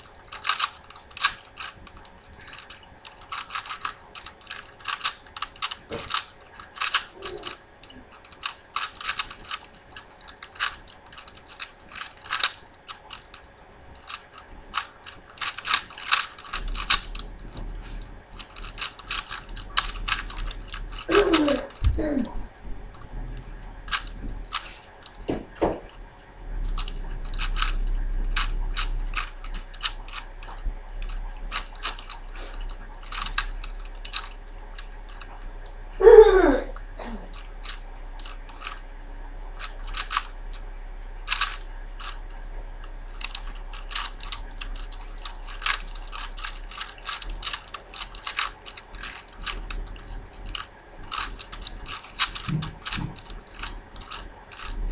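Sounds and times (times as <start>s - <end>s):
puzzle cube clicking as turned: 0.0s - 22.1s, 22.9s - 26.0s, 26.7s - 35.4s, 37.3s - 38.8s, 39.6s - 40.6s, 41.3s - 42.2s, 43.1s - 54.9s
low hum: 0.0s - 54.9s.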